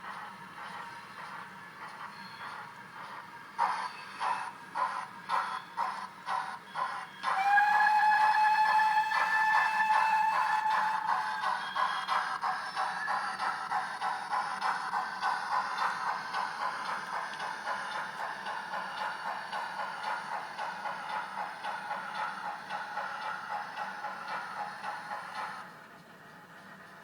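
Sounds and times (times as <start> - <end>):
steam locomotive exhaust chuffs: 0.0 - 27.0.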